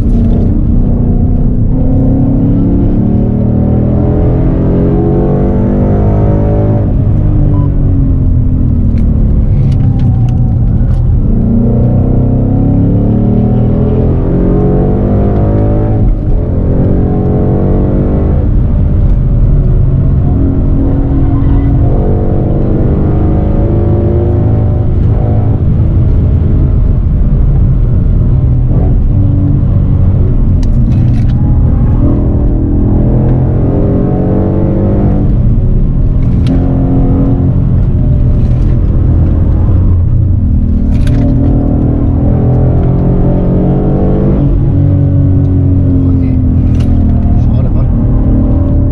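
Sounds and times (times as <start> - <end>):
car engine revving in cabin: 0.0 - 48.9.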